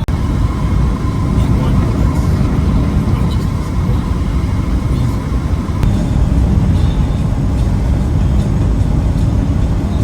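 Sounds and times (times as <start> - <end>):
road and wind noise in vehicle: 0.0 - 10.0.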